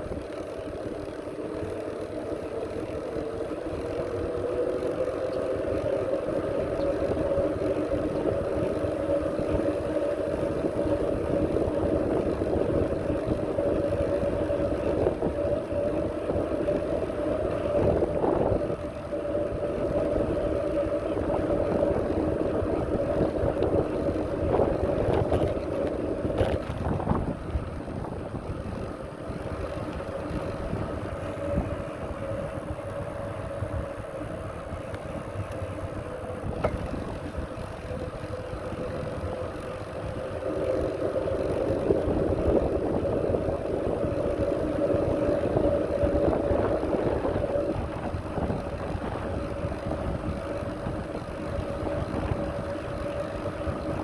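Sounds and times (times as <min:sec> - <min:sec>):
bicycle rolling noise: 0:00.0 - 0:54.0
steady droning hum: 0:00.0 - 0:54.0
wind rumble: 0:00.0 - 0:54.0.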